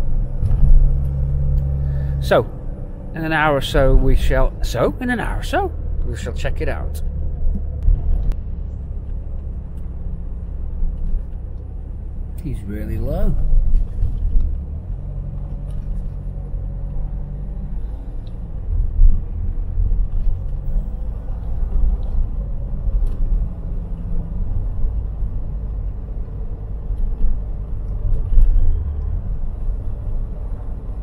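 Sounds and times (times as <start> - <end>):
car engine rumble: 0.0 - 31.0
road noise: 0.0 - 31.0.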